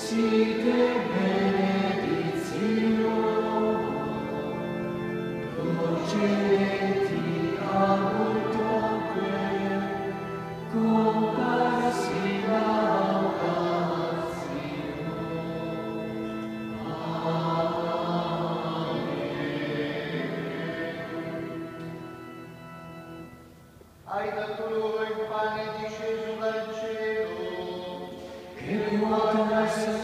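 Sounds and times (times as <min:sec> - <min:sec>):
choir singing a hymn: 0:00.0 - 0:23.3, 0:24.1 - 0:30.0.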